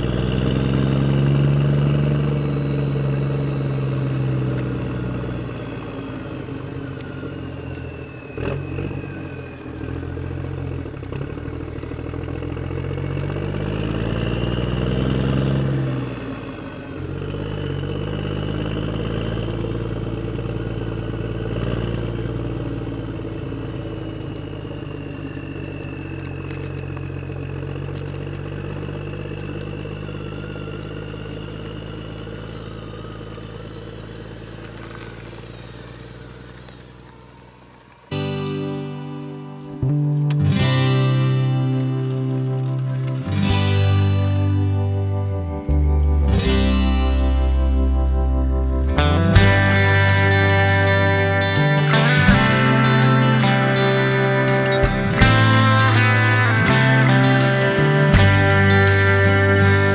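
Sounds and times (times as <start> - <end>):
high motor whine: 0.0 - 59.9
model tractor engine hum: 0.0 - 59.9.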